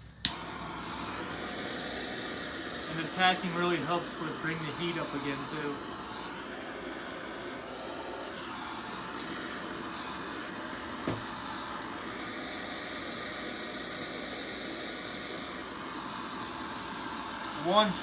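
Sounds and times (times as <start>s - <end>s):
torch flame hissing: 0.0s - 18.0s.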